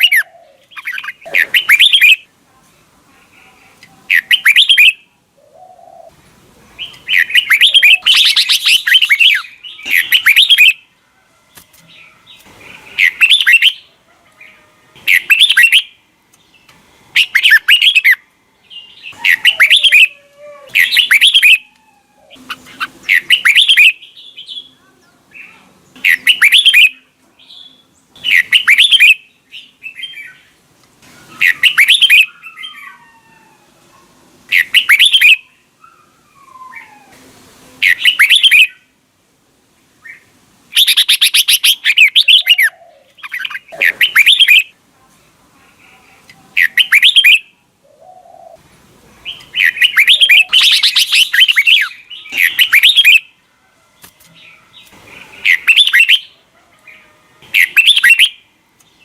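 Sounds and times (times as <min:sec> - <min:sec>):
bird song phrases: 0:00.0 - 0:10.9, 0:11.5 - 0:33.2, 0:34.5 - 0:38.9, 0:40.0 - 0:59.0.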